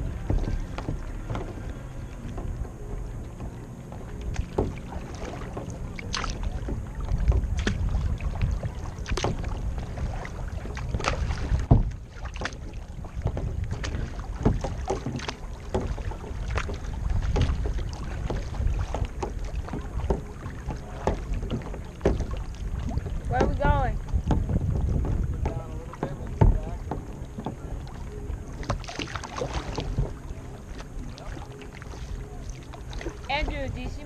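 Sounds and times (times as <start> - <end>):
paddle splashing in water: 0.0 - 34.0
wind on microphone: 0.0 - 34.0.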